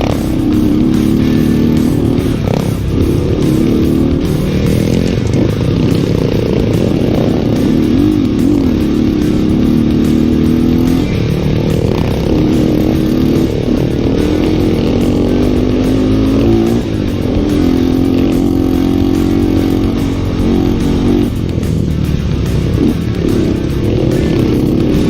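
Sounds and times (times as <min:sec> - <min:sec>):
background music: 0:00.0 - 0:25.0
motorcycle engine revving: 0:00.0 - 0:25.0.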